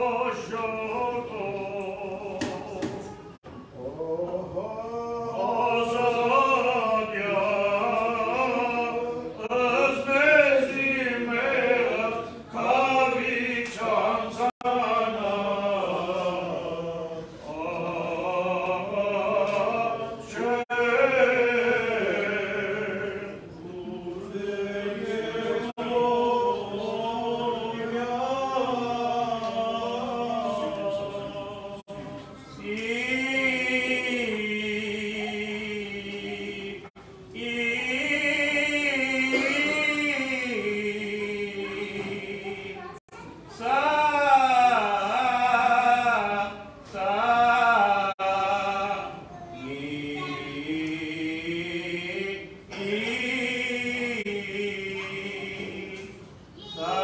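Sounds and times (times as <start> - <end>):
men chanting a hymn: 0.0 - 57.0.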